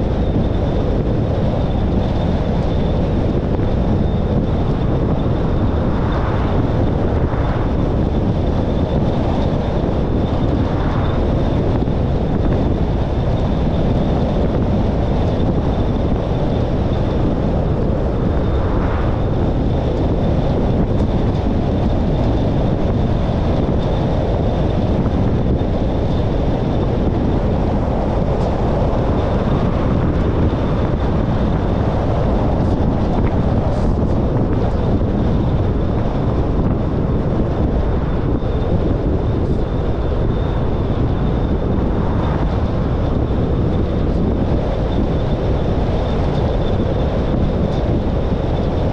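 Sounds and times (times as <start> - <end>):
car road and wind noise: 0.0 - 48.9
faint high whine: 0.0 - 48.9.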